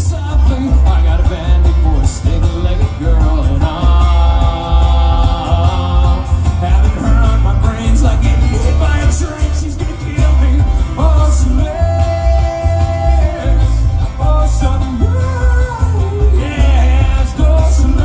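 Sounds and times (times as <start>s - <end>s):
bluegrass band playing: 0.0s - 18.0s.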